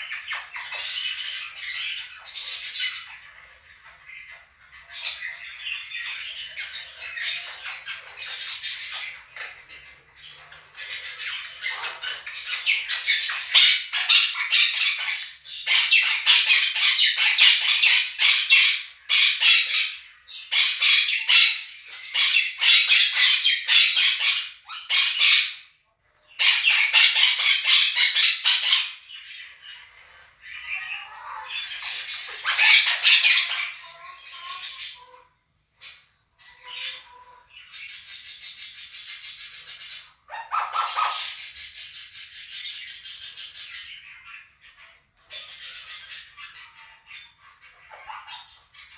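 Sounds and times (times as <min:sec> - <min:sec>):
parrots squawking: 0:00.0 - 0:48.9
recorded budgerigar chatter: 0:00.0 - 0:48.9.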